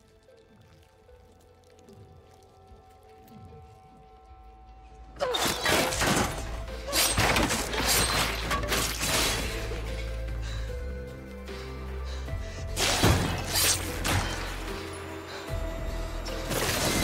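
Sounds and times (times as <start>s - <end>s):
soft music: 0.0s - 17.0s.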